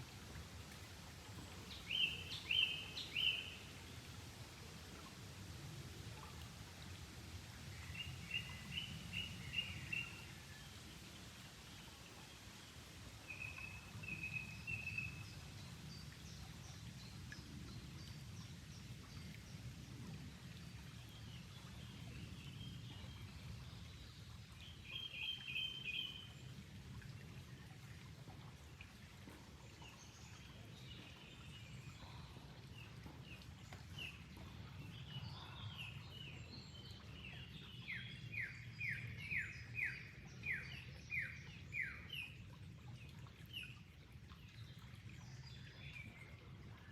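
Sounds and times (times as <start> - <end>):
flowing water: 0.0 - 46.9.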